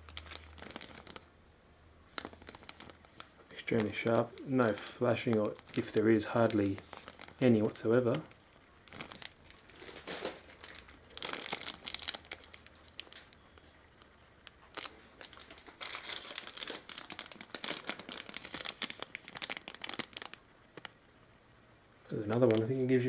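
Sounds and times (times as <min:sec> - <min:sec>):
plastic bags crinkling: 0:00.0 - 0:01.3, 0:02.0 - 0:21.0, 0:22.3 - 0:23.0.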